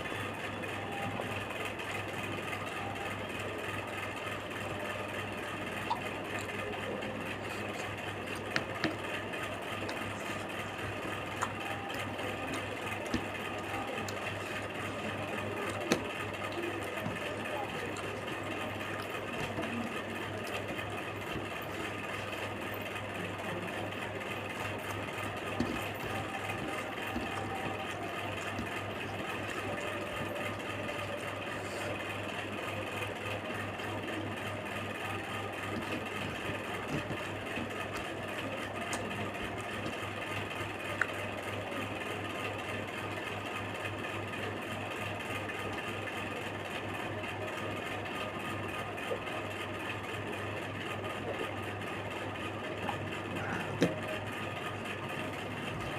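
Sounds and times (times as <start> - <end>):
machine hum with low throb: 0.0 - 55.9.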